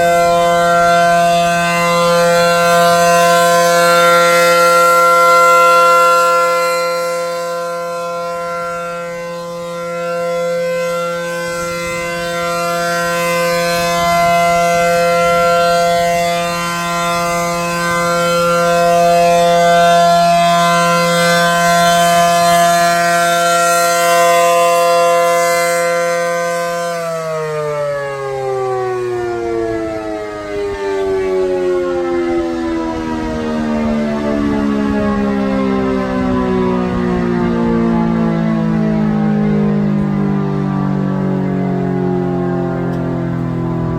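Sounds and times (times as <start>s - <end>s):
rotating warning siren: 0.0s - 43.9s.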